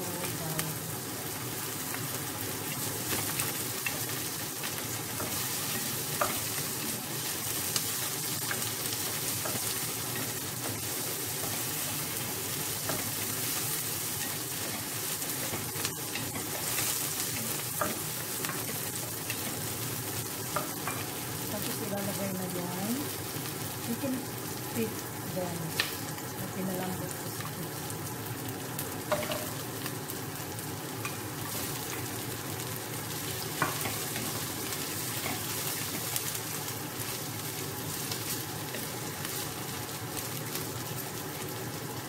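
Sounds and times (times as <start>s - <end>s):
onion and garlic sizzling in oil: 0.0s - 42.0s.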